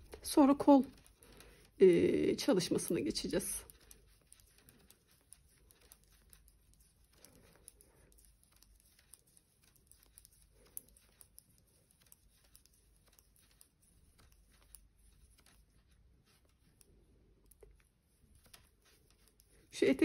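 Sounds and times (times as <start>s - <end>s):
knitting needles clicking: 0.0s - 20.0s.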